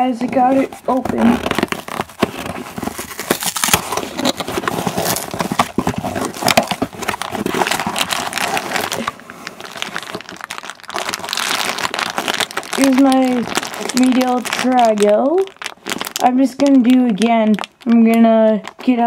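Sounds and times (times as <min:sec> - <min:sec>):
package rustling and crackling: 0:00.0 - 0:19.0.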